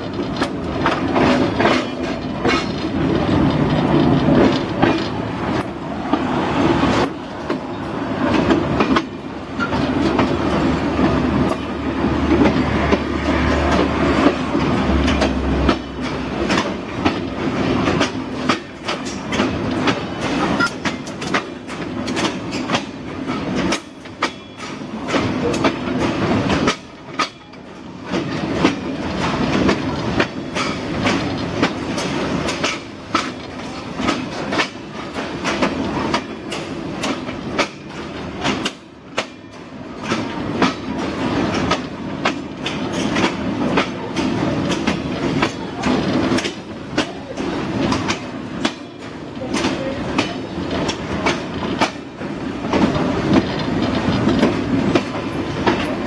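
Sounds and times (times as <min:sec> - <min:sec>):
train wheels rumbling on track: 0:00.0 - 0:56.0
wheels clicking over rail joints: 0:00.0 - 0:56.0.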